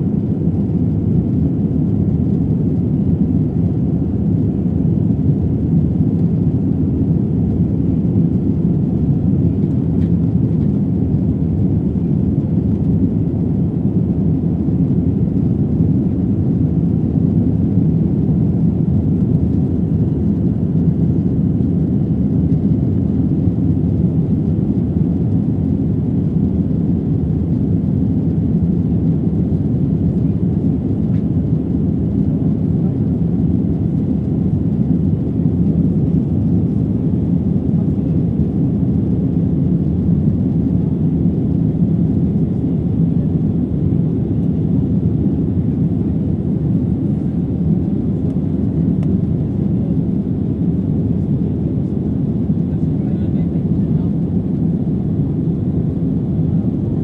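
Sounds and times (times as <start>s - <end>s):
jet engines and airflow in cabin: 0.0s - 57.0s.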